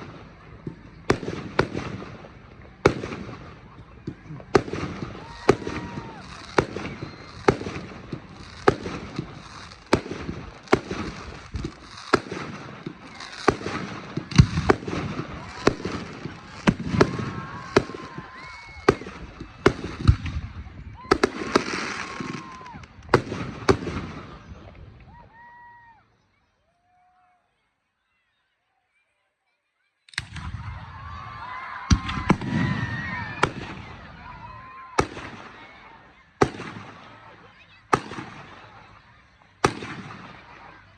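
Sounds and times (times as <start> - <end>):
fireworks bangs: 0.0 - 25.1, 30.1 - 40.9.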